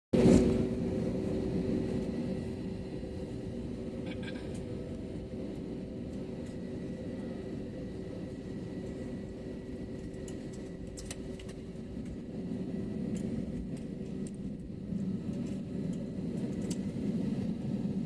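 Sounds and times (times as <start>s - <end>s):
airplane cabin drone: 0.2s - 18.0s
constant hum: 0.2s - 18.0s.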